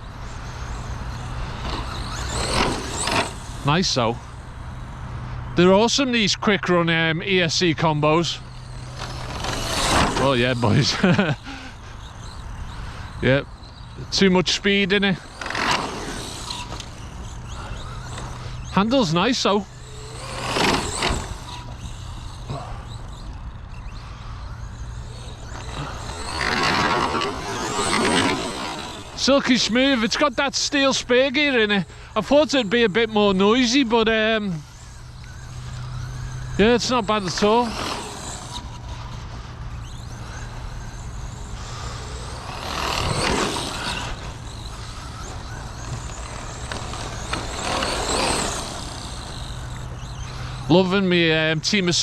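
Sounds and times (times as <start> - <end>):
steady low hum: 0.0 - 51.4
faint rc truck motor: 0.0 - 52.0.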